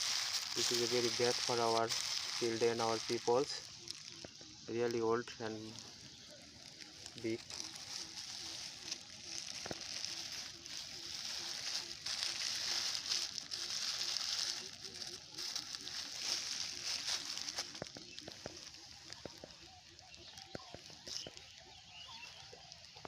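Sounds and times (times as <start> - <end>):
plastic sheeting crinkling: 0.0 - 23.0.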